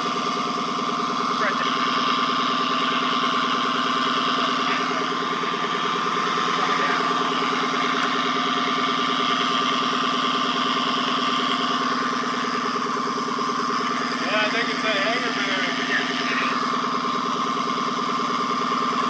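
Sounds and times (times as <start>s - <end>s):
driveline whine and pulsing: 0.0s - 19.0s.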